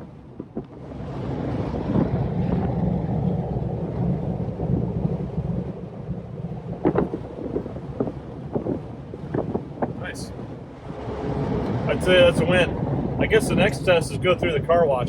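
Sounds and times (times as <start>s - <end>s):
road noise: 0.0s - 15.0s
sharp wind gusts: 0.0s - 15.0s
wind buffeting through open roof: 0.0s - 15.0s.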